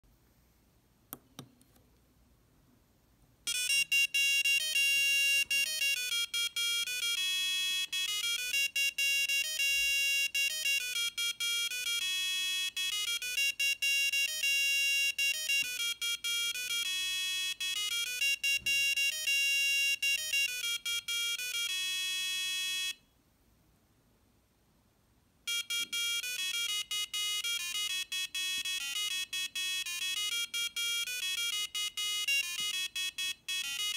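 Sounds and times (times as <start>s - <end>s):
electronic buzzer tune: 3.5s - 23.0s, 25.5s - 33.9s.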